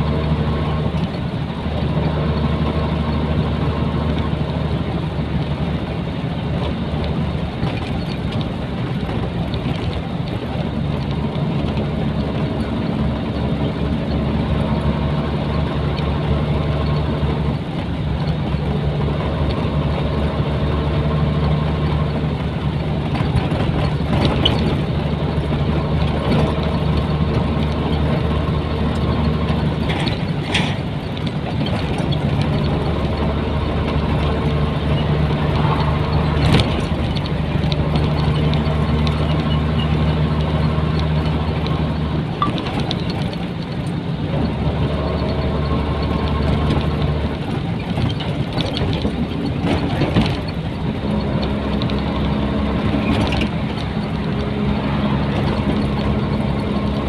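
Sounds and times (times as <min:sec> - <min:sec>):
diesel truck engine driving: 0:00.0 - 0:57.0.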